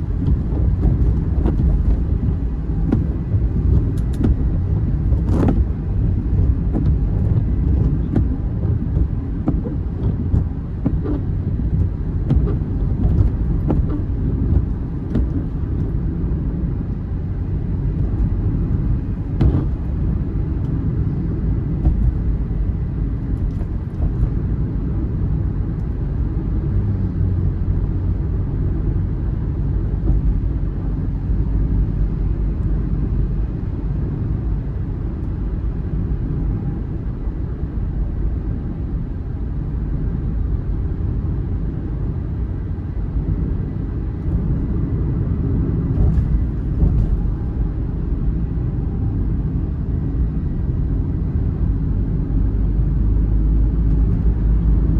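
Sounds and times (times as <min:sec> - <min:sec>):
vehicle rumble: 0:00.0 - 0:54.9.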